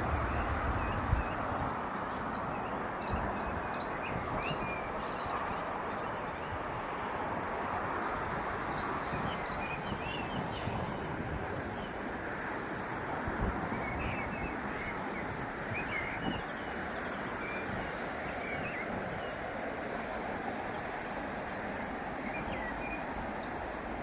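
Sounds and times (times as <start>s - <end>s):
small birds chirping: 0.0s - 6.4s, 8.0s - 24.0s.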